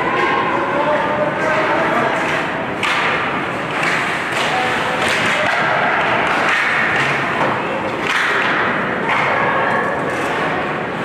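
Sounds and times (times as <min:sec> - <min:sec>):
hockey sticks knocking: 0:01.4 - 0:10.6
puck and players thudding boards: 0:01.5 - 0:10.7.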